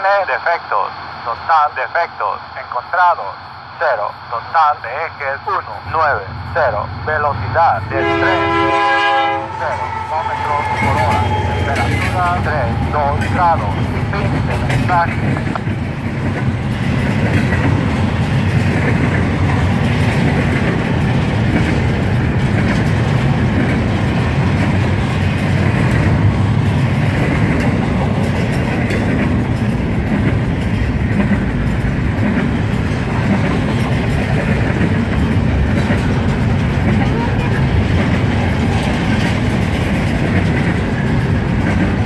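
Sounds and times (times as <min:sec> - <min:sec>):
steel train wheels on rails: 0:05.8 - 0:42.0.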